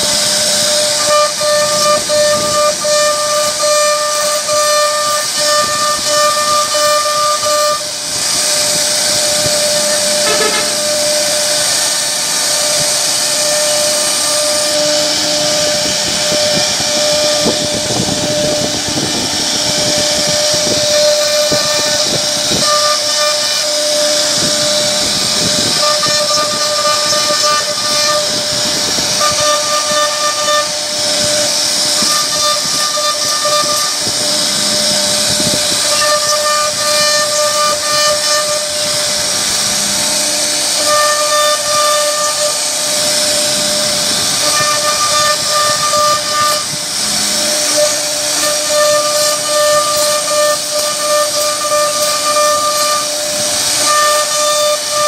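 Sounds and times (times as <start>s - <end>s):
bit carving wood hiss: 0.0s - 55.0s
router spindle whining: 0.0s - 55.0s.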